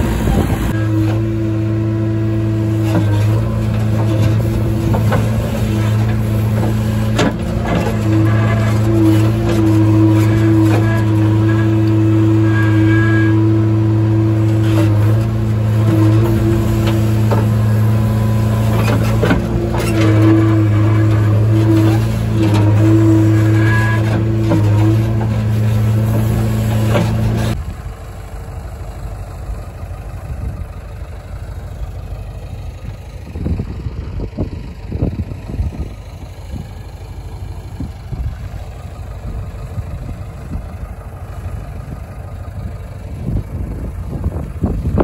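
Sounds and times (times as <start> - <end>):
heavy diesel engine droning: 0.0 - 45.0.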